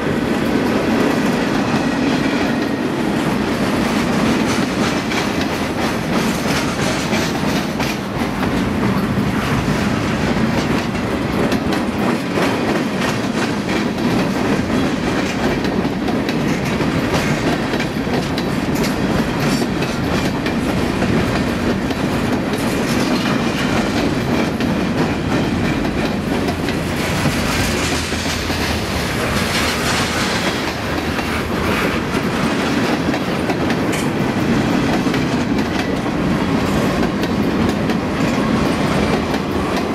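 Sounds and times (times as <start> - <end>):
freight train wheels rumbling: 0.0 - 39.9
wheels clacking over rail joints: 0.8 - 39.9.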